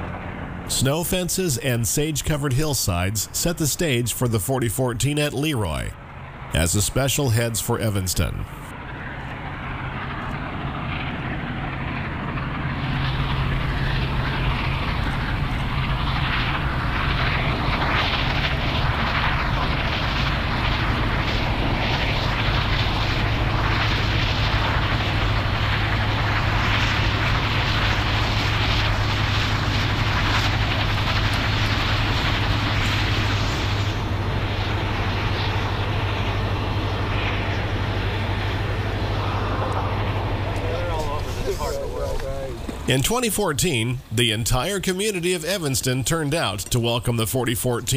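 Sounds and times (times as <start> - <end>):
steam locomotive rumbling: 5.6 - 47.1.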